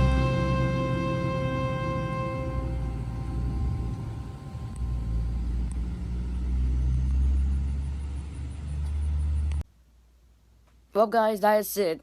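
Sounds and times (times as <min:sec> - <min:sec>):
low vehicle rumble: 0:00.0 - 0:09.6.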